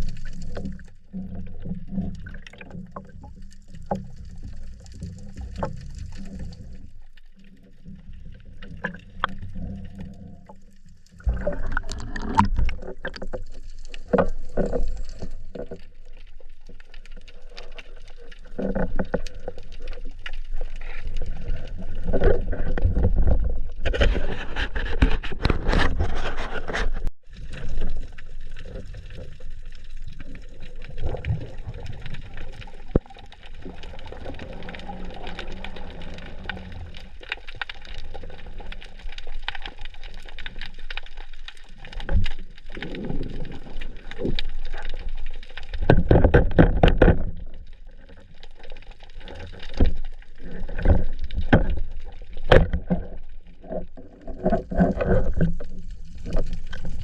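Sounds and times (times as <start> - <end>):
sea water sloshing and gurgling: 0.0 - 57.0.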